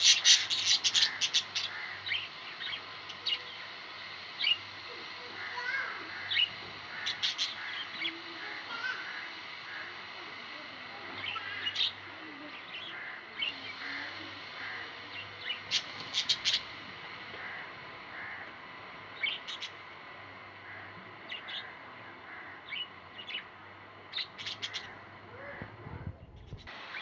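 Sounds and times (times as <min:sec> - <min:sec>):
parrots chirping: 0:00.0 - 0:25.6
steady background hiss: 0:00.0 - 0:27.0.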